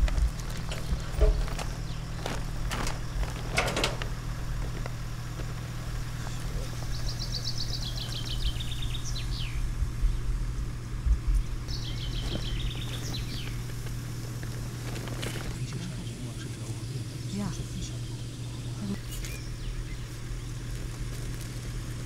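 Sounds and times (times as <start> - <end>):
songbird singing: 0.0 - 22.0
steady low hum: 0.0 - 22.0.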